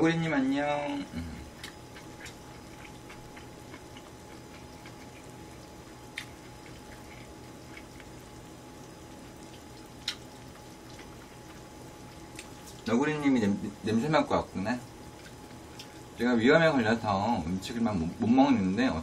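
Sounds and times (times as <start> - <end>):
food simmering in a pan: 0.0 - 19.0.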